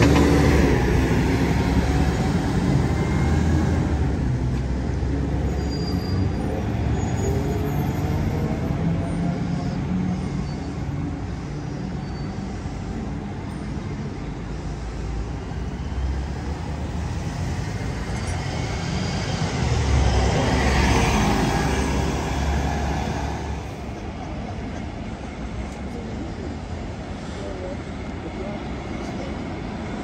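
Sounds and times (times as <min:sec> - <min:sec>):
bus engine rumble: 0:00.0 - 0:30.0
tyre and road noise: 0:00.0 - 0:30.0.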